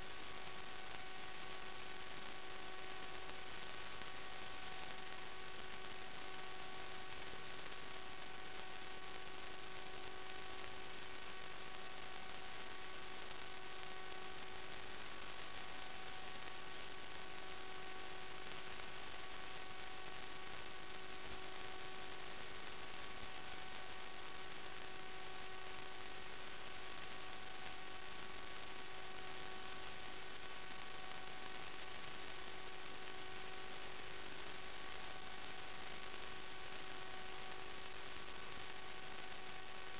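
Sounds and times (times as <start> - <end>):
buzzing hum: 0.0 - 39.9
electrical hiss: 0.0 - 39.9.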